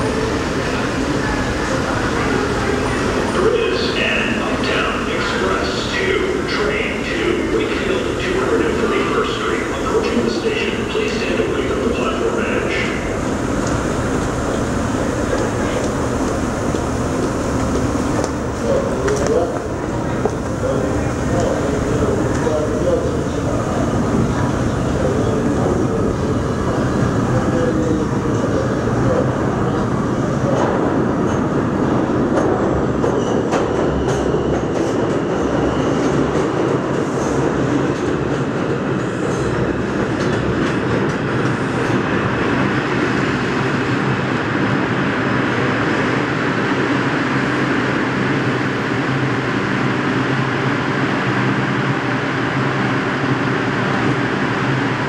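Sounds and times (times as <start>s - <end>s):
train steady hum: 0.0s - 55.0s.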